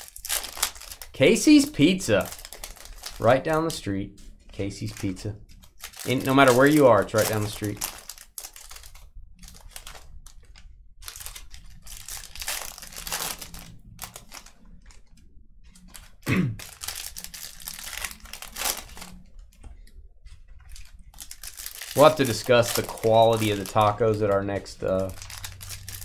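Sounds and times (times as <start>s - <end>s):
card wrappers crinkling and tearing: 0.0s - 26.0s.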